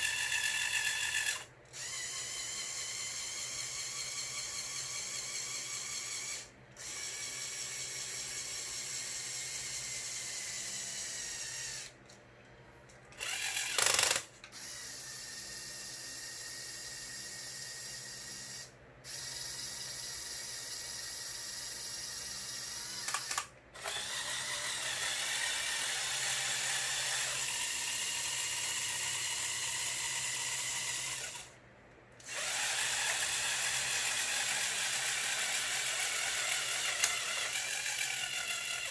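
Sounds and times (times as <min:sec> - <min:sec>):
small electric motors whirring: 0:00.0 - 0:12.0, 0:13.2 - 0:31.6, 0:32.2 - 0:38.9.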